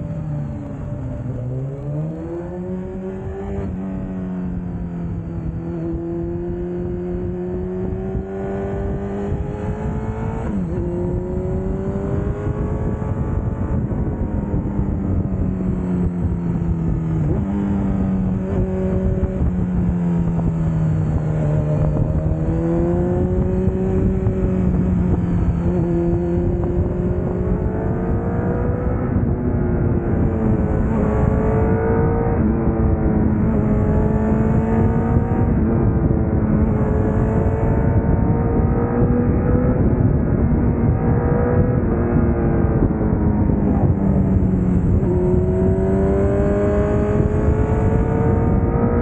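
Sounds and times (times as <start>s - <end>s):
motorcycle engine revving: 0.0s - 49.0s
wind rush: 0.0s - 49.0s.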